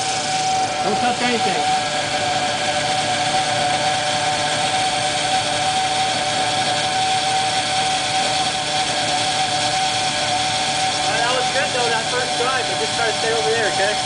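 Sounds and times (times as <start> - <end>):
rc helicopter motor and rotor whine: 0.0 - 14.0.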